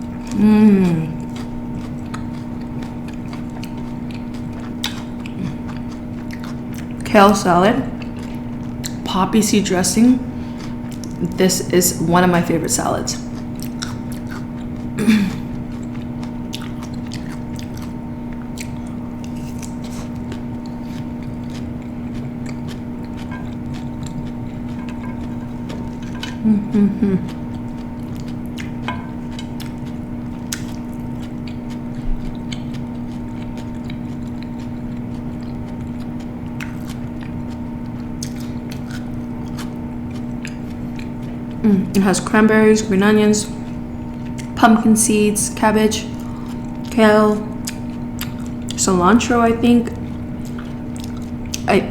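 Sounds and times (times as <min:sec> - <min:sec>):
chewing and crunching salad: 0:00.0 - 0:51.9
steady background hum: 0:00.0 - 0:51.9.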